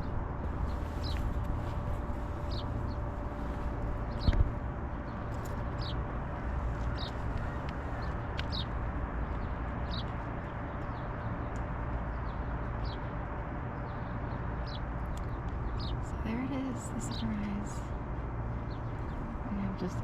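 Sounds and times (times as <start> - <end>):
birds chirping: 0.0 - 20.0
low outdoor rumble: 0.0 - 20.0.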